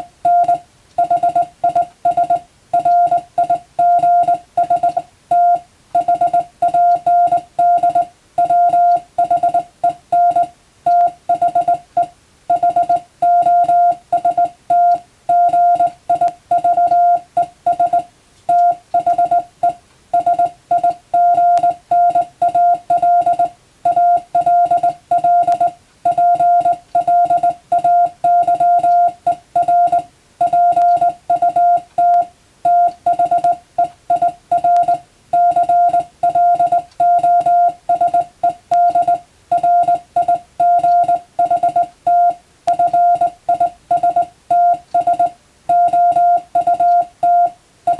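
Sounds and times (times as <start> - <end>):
morse code tone beeps: 0.0 - 47.9.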